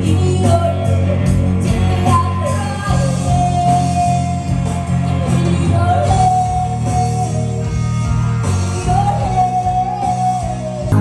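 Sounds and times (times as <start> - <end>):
woman singing: 0.0 - 7.8, 8.7 - 11.0
bass guitar: 0.0 - 11.0
electric guitar: 0.0 - 11.0.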